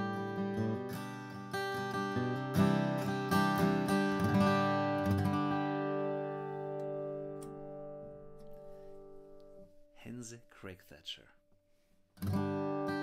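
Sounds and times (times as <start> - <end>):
acoustic guitar strumming: 0.0 - 10.8, 12.2 - 13.0.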